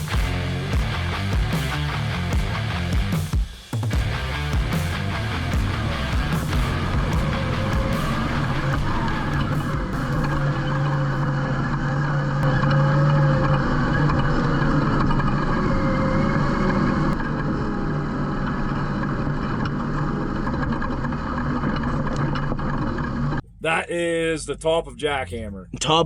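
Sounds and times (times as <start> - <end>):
off-road vehicle engine droning: 0.0 - 3.2, 3.9 - 23.4.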